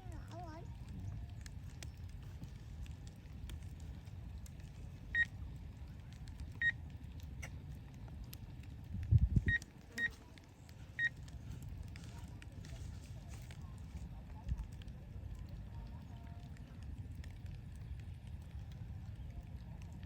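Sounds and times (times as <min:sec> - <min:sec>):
low wind rumble on microphone: 0:00.0 - 0:20.0.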